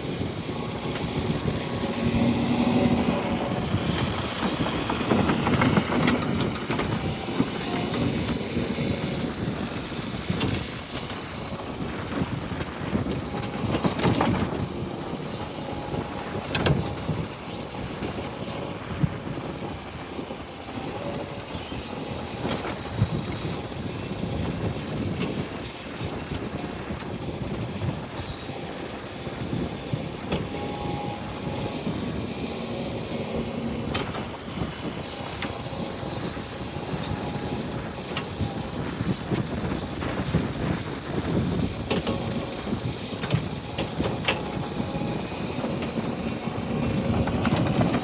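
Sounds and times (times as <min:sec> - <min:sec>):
utility vehicle driving over rough ground: 0:00.0 - 0:48.0
wind buffeting the microphone: 0:00.0 - 0:48.0.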